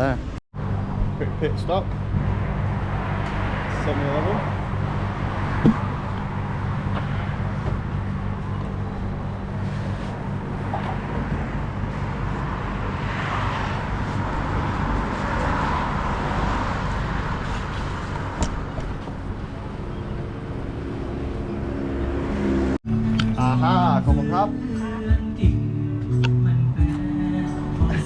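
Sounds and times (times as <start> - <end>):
vehicle engine hum: 0.0 - 23.5
road noise: 0.0 - 24.0.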